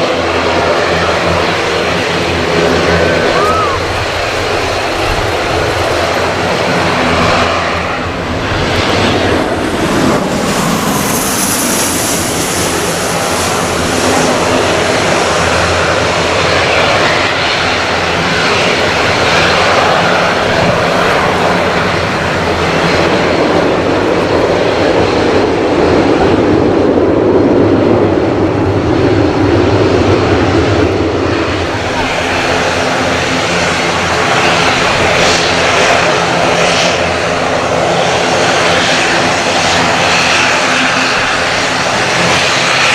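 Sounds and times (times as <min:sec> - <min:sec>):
high engine whine: 0:00.0 - 0:42.9
jet engines running: 0:00.0 - 0:42.9.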